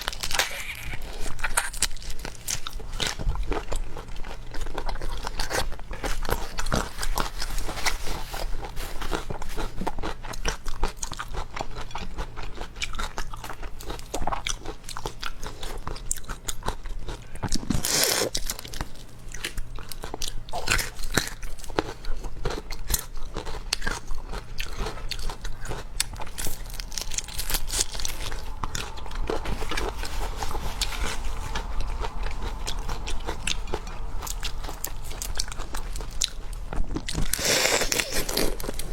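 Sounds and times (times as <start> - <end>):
chewing and crunching seafood: 0.0 - 38.9.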